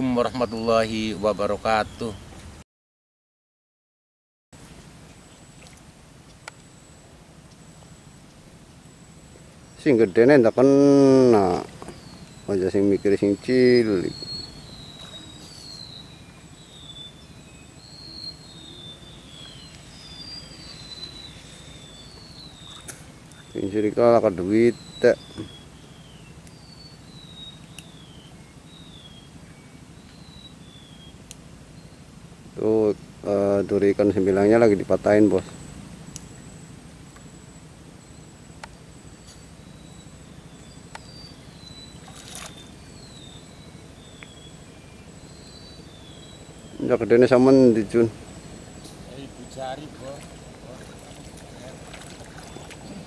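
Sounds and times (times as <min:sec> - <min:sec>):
birds calling with falling whistles: 0:00.0 - 0:02.6, 0:06.6 - 0:53.0
high insect whine: 0:04.6 - 0:53.0
river murmur: 0:04.6 - 0:53.0
faint high steady tone: 0:06.4 - 0:53.0.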